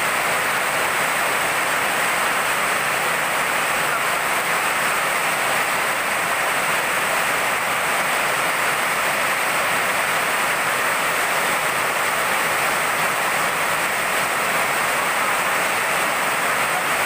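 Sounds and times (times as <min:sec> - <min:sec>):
heavy rain splashing on puddles: 0:00.0 - 0:17.0.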